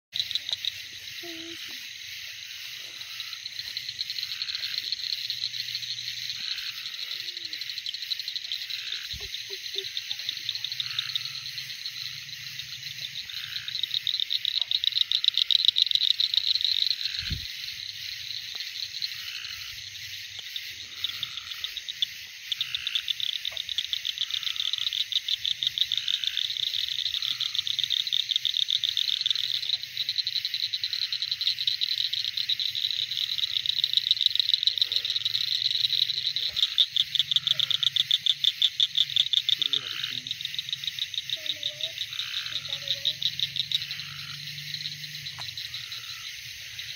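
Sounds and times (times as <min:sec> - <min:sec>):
frogs calling in chorus: 0:00.2 - 0:46.9.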